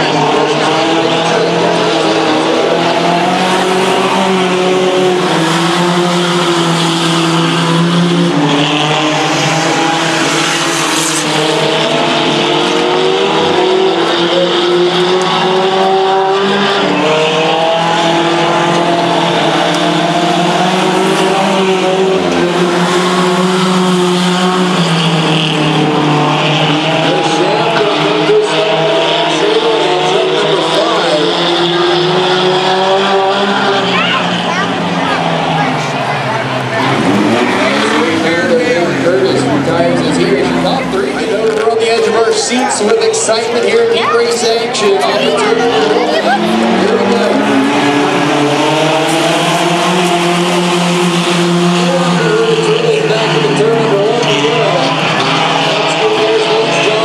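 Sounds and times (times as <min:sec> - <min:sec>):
racing truck engines: 0:00.0 - 0:57.0.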